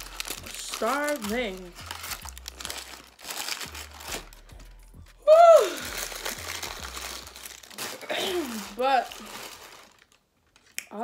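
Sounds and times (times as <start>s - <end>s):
paper crinkling and crumpling: 0.0s - 4.7s, 5.6s - 10.8s.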